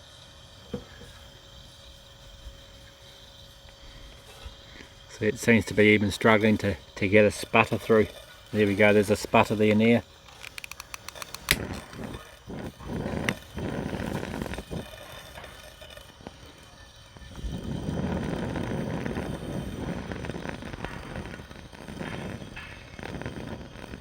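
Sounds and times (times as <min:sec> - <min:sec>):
lantern burner sputtering: 0:00.0 - 0:24.0.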